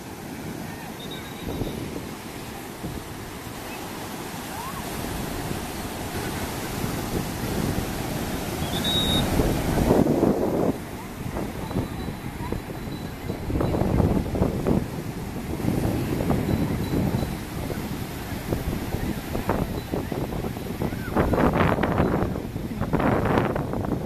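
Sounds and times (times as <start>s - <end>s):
surf breaking on beach: 0.0s - 24.0s
wind on microphone: 0.0s - 24.0s.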